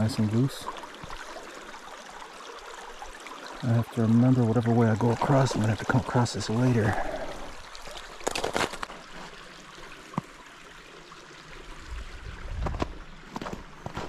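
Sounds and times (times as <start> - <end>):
creek water over rocks: 0.0 - 14.0.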